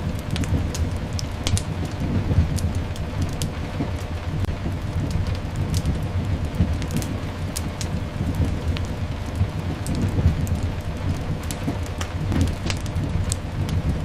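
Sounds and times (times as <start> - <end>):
deep low rumble: 0.0 - 14.0
sharp crackles: 0.0 - 14.0
steady rain: 0.0 - 14.0.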